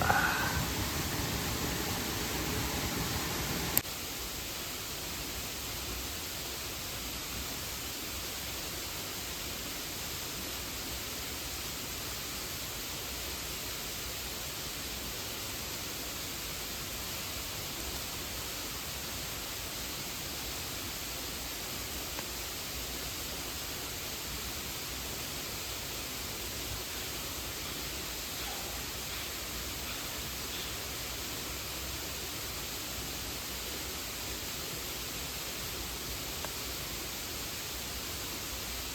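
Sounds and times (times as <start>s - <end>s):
stream and waterfall rushing: 0.0s - 38.9s.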